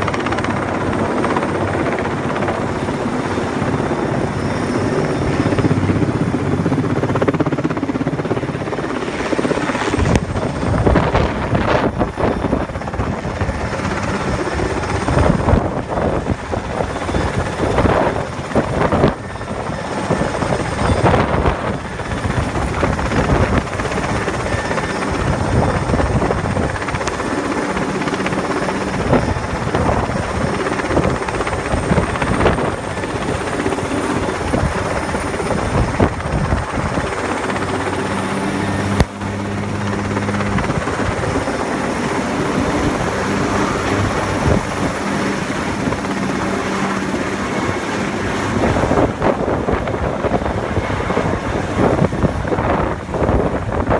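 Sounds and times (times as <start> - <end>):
helicopter rotor and engine: 0.0 - 53.9.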